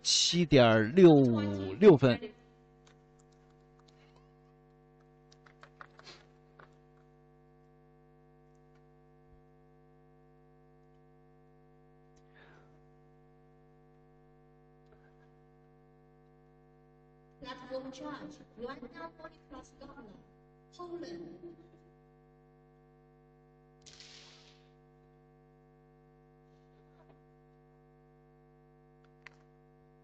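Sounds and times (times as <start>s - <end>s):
faint electrical hum: 0.0s - 30.0s.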